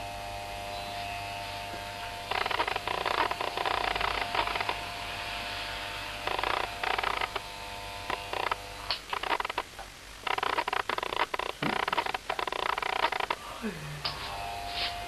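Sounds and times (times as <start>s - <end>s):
electric hair clippers humming: 0.0s - 15.0s.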